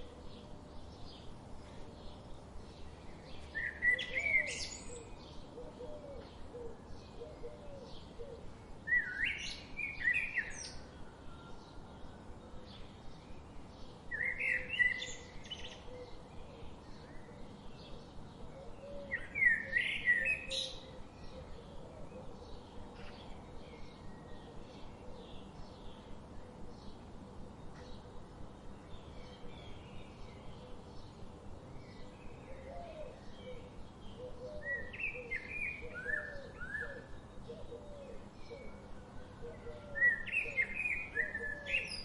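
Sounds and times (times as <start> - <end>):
bird singing loud song phrase: 0.0 - 42.0.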